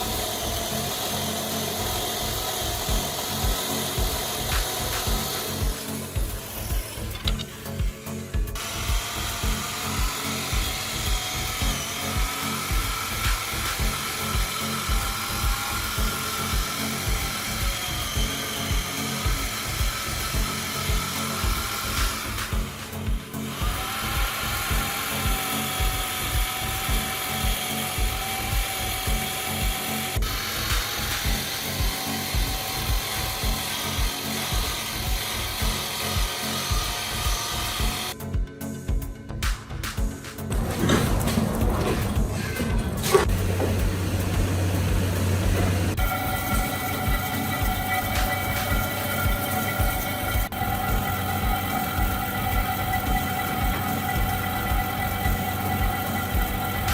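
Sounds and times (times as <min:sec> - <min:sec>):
power tool whining on wood: 0:00.0 - 0:38.2, 0:40.5 - 0:56.9
background music with beat: 0:00.0 - 0:56.9.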